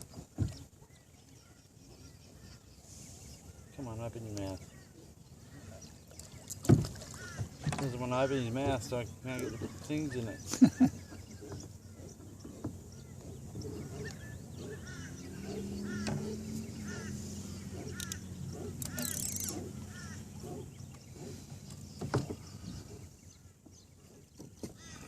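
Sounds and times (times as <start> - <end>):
bird calling: 0.1 - 25.0.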